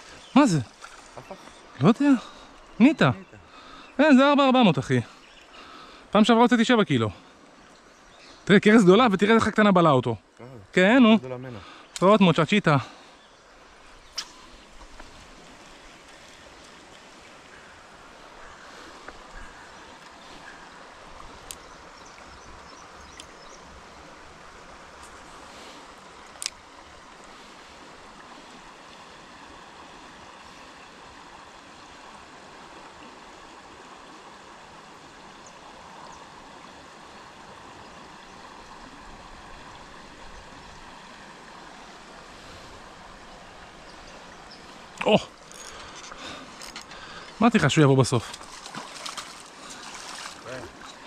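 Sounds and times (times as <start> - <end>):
river water flowing: 0.0 - 51.0.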